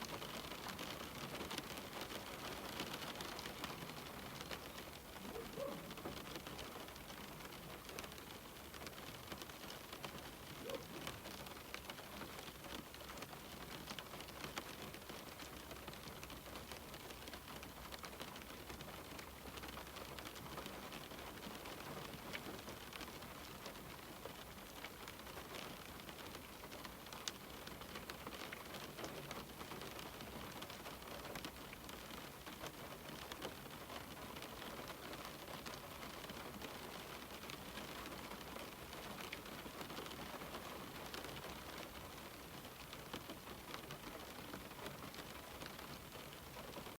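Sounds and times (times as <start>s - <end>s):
rain on a window: 0.0s - 47.0s.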